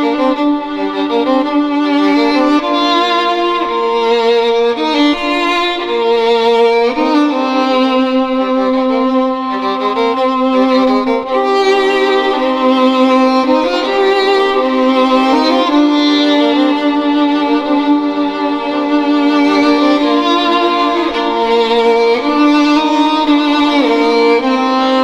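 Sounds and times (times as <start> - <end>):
violin melody: 0.0 - 25.0.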